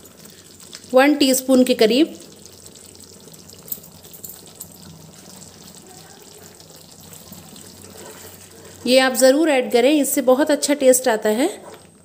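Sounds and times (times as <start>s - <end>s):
gravy simmering in a pan: 0.0s - 9.8s.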